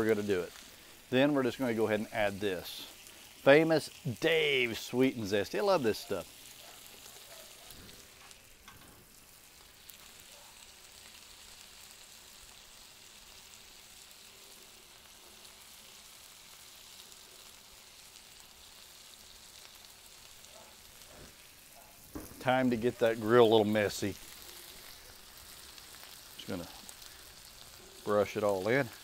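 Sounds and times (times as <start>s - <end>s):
chicken sizzling on griddle: 0.0s - 29.0s.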